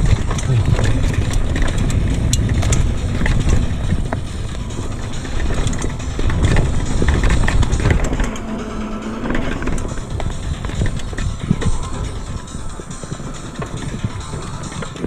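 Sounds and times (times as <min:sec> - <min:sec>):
bike chain and frame rattling: 0:00.0 - 0:15.0
bike tyres on dirt: 0:00.0 - 0:15.0
wind on microphone: 0:00.0 - 0:15.0.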